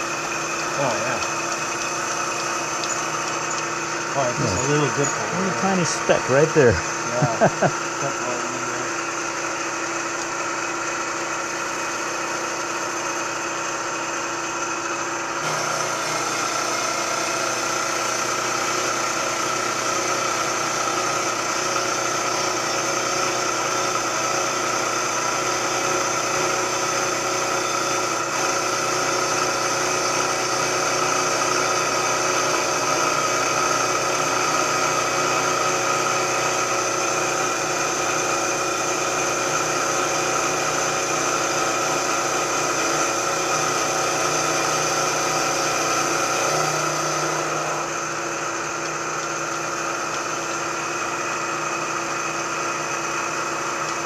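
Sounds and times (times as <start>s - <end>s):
milling machine cutting metal: 0.0s - 54.0s.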